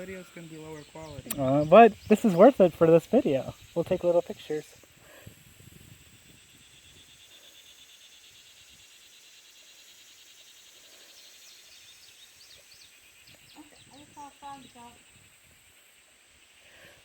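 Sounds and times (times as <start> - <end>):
faint insect buzz: 0.0 - 17.0.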